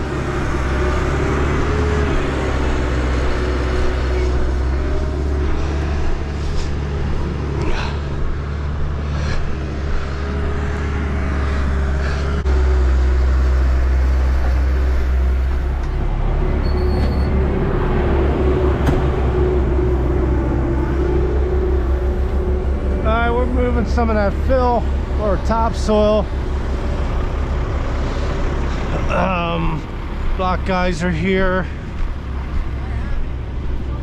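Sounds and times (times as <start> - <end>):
excavator diesel engine rumbling: 0.0 - 34.0
steady engine whine: 0.0 - 34.0.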